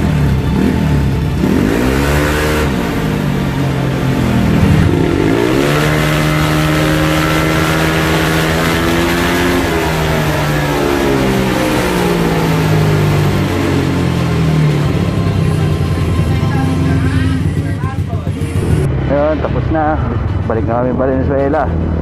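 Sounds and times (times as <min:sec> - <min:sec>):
scooter engine revving: 0:00.0 - 0:20.5.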